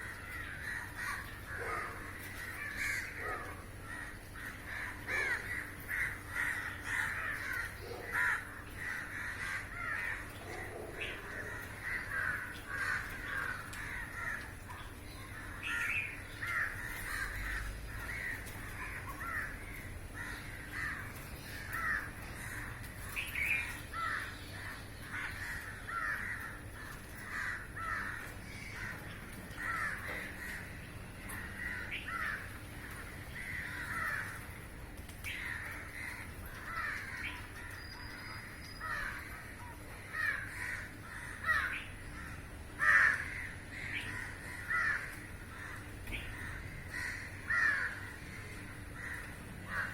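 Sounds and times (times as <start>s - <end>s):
crows cawing: 0.0s - 49.9s.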